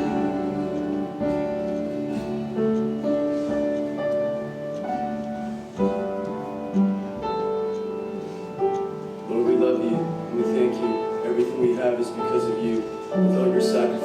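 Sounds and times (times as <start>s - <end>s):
keyboard playing slow chords: 0.0s - 14.0s.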